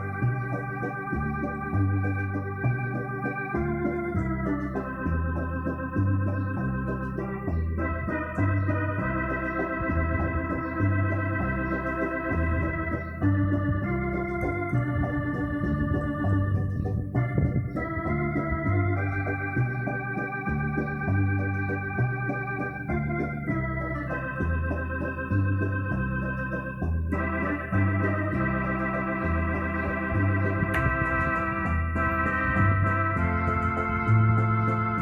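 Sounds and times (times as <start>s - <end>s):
electronic organ chords with vibrato: 0.0s - 35.0s
organ bass line: 0.0s - 35.0s.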